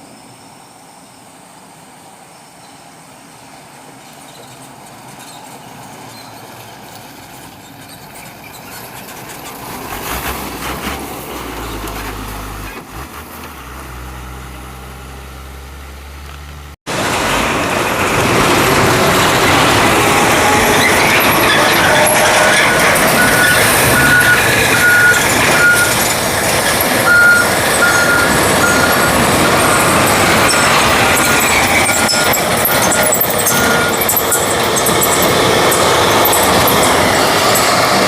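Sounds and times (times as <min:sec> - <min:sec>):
diesel truck engine: 0:04.3 - 0:38.0
harsh truck sound close by: 0:04.4 - 0:38.0.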